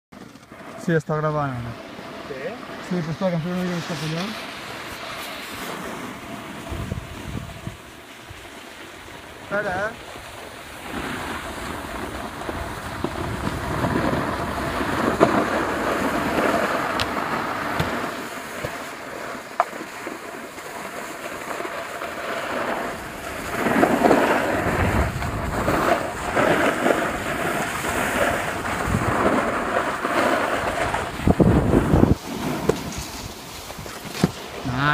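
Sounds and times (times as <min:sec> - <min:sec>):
snowboard edge scraping snow: 0:00.2 - 0:34.9
wind on microphone: 0:01.4 - 0:34.9.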